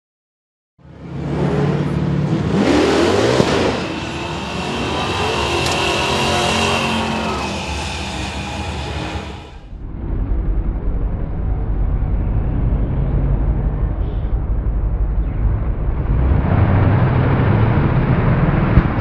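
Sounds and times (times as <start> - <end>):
race car engines revving: 0.8 - 9.7, 11.8 - 19.0.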